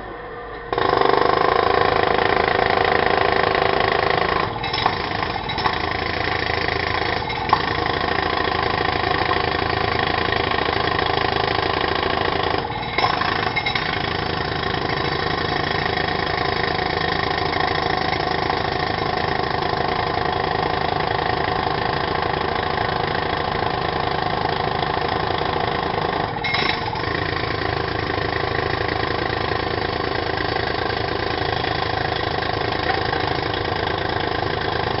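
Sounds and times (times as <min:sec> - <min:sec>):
pneumatic drill hammering: 0:00.0 - 0:35.0.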